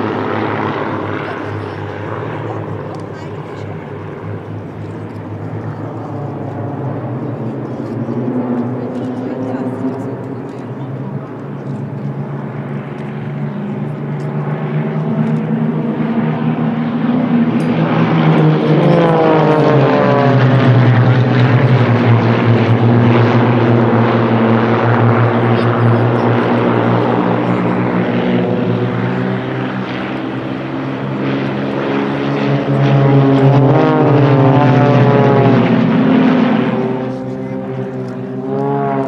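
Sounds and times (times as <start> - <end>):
propeller planes droning: 0.0 - 39.0.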